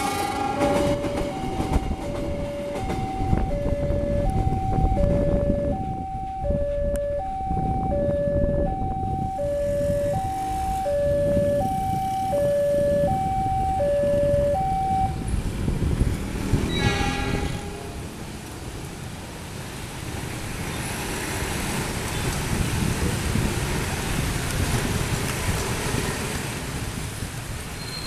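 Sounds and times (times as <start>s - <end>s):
train wagons rumbling past: 0.0s - 28.0s.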